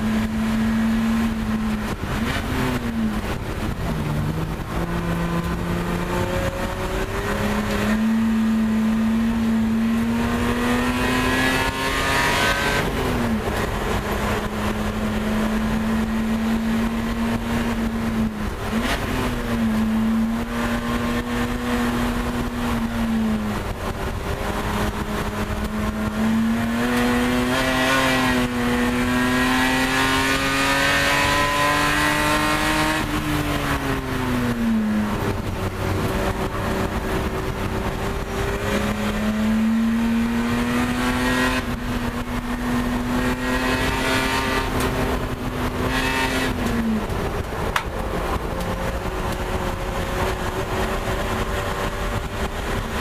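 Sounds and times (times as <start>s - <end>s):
race car engine under load: 0.0s - 53.0s.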